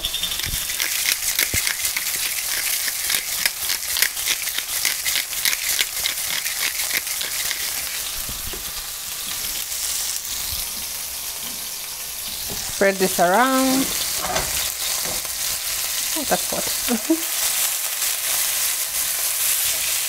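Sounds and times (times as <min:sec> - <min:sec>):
meat sizzling in hot oil: 0:00.0 - 0:20.0.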